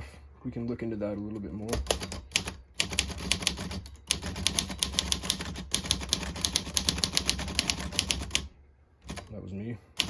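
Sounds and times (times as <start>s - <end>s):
manual typewriter typing: 1.2s - 9.4s.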